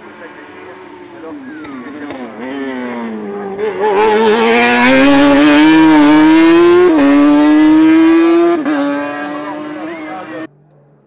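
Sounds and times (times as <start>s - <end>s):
race car engine accelerating: 0.0s - 10.5s.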